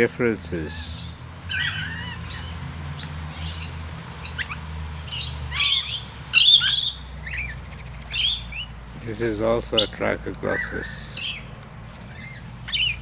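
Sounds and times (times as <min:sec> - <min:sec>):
birds chirping and whistling: 0:00.0 - 0:13.0
harsh screechy parrot chatter: 0:00.0 - 0:13.0.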